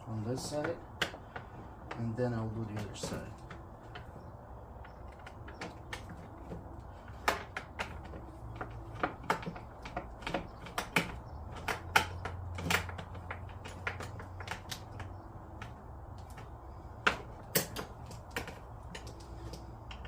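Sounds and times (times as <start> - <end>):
plastic parts clicking and tapping: 0.3 - 20.0.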